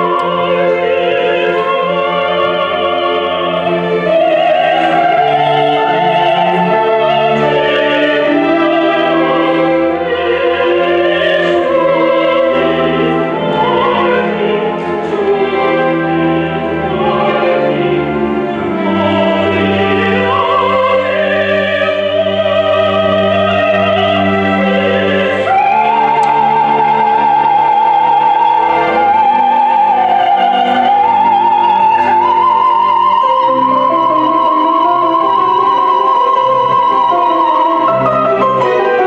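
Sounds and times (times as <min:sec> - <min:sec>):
orchestra playing: 0:00.0 - 0:39.0.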